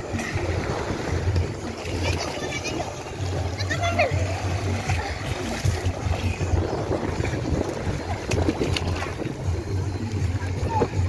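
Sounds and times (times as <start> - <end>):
children wading and thrashing: 0.0 - 11.0
sea water sloshing and splashing: 0.0 - 11.0
wind buffeting microphone: 0.0 - 11.0.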